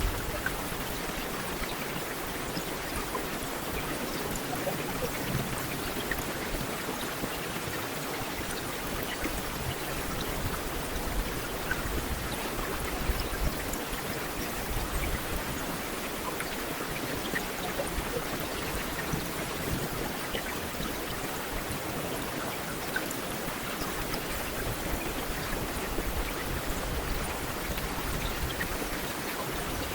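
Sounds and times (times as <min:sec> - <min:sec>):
heavy rain on a street: 0:00.0 - 0:29.9.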